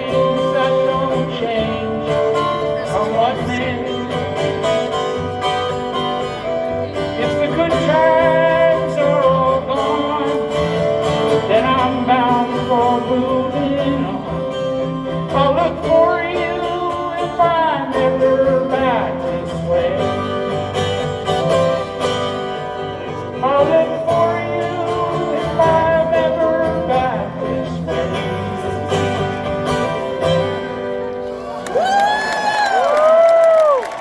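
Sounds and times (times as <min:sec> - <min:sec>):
strummed acoustic guitar: 0:00.0 - 0:31.4.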